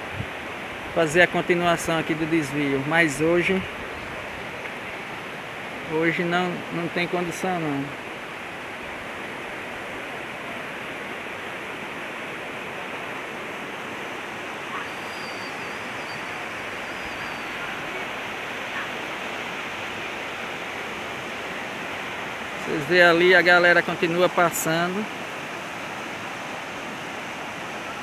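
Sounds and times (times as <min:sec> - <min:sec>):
floodwater rushing over rocks: 0:00.0 - 0:28.0.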